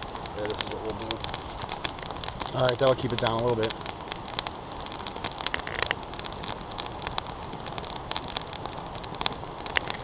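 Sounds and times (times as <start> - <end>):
hiss of flames: 0.0 - 10.0
wood crackling and popping: 0.0 - 10.0.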